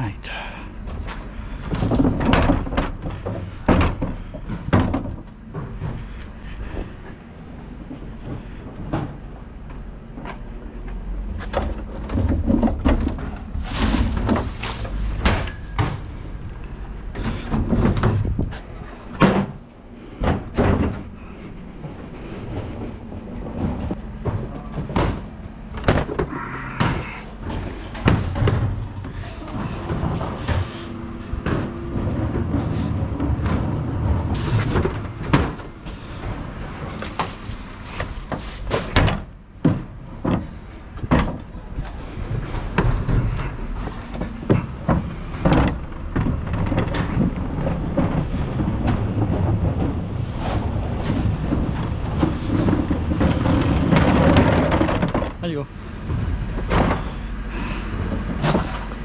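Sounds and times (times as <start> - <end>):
wheels rumbling on paving: 0.0 - 59.0
wheelie bin lid and body clattering: 0.8 - 6.1, 11.3 - 21.2, 23.4 - 59.0.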